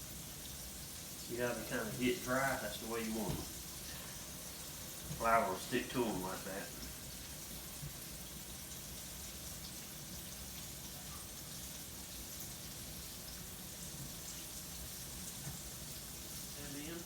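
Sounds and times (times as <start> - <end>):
grease sizzling in a skillet: 0.0 - 17.0.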